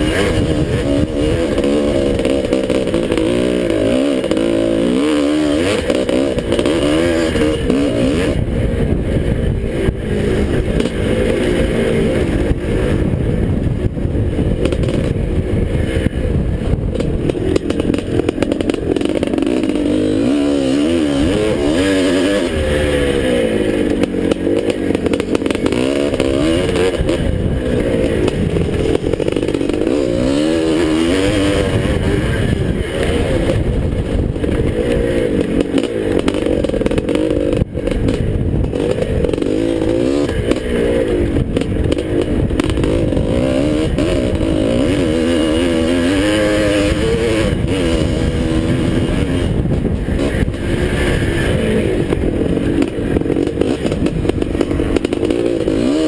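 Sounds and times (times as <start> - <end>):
motocross engine revving: 0.0 - 56.0
wind noise on microphone: 0.0 - 56.0.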